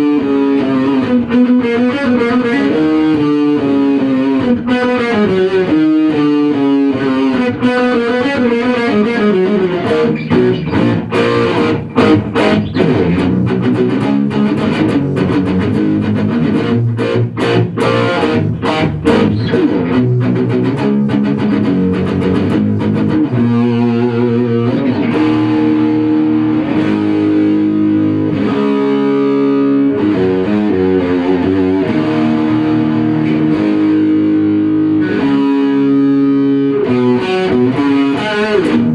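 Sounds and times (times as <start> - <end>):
distorted electric guitar rock music: 0.0 - 38.9.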